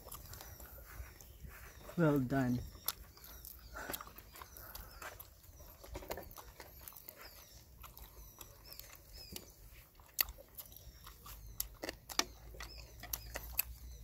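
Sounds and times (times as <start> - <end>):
faint high chirping calls: 0.0 - 14.0
person chewing wet mouth sounds: 0.0 - 14.0.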